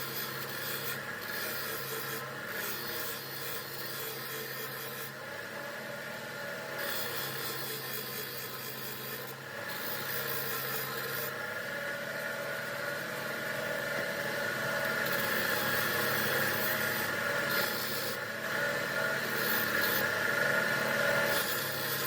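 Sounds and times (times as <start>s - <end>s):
electric grinder motor running: 0.0s - 22.0s
grinding scraping on metal: 0.0s - 22.0s.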